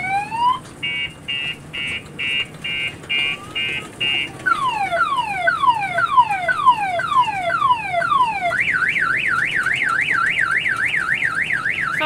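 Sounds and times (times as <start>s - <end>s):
electronic multi-tone siren: 0.0s - 12.0s.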